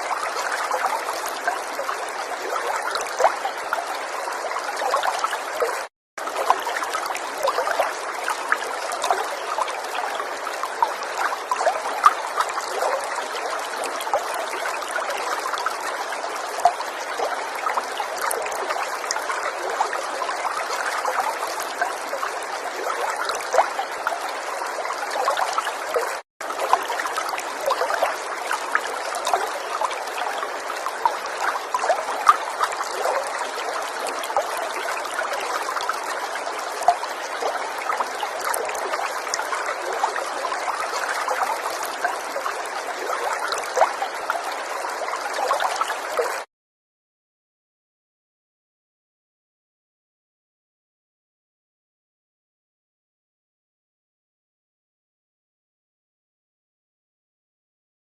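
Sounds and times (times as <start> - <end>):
river water flowing: 0.0 - 46.5.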